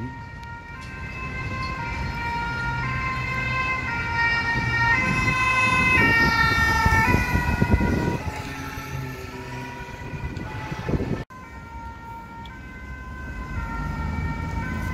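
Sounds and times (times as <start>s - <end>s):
engine and road noise: 0.0s - 14.9s
two-tone siren: 0.0s - 14.9s.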